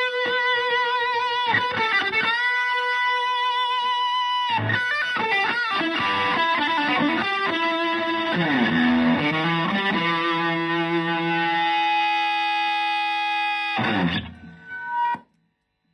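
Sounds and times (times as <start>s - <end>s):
distorted electric guitar: 0.0s - 15.3s.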